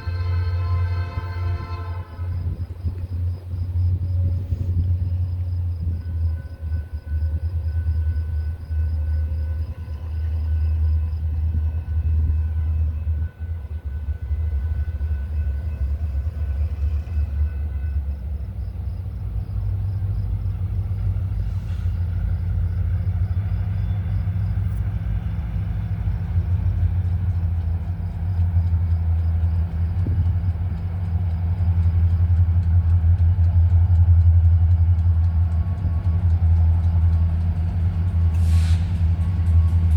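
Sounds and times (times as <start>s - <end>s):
diesel locomotives rumbling: 0.0s - 39.9s.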